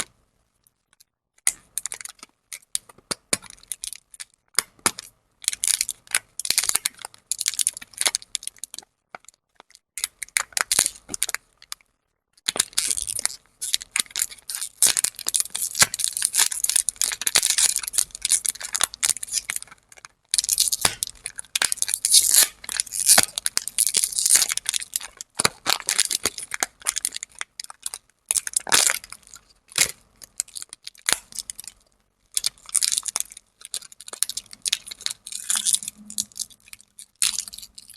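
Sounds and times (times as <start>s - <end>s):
plastic wrappers crinkling: 1.6s - 11.8s, 12.4s - 37.9s.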